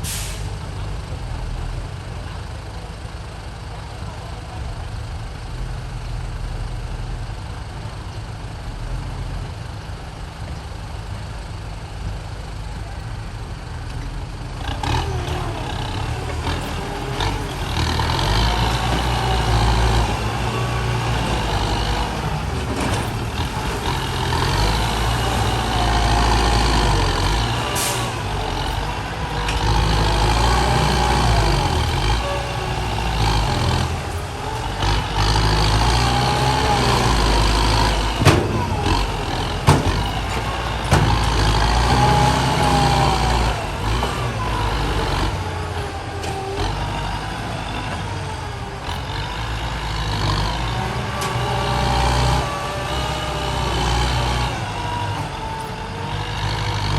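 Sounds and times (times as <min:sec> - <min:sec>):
diesel truck engine revving: 0:00.0 - 0:07.9, 0:08.6 - 0:56.9.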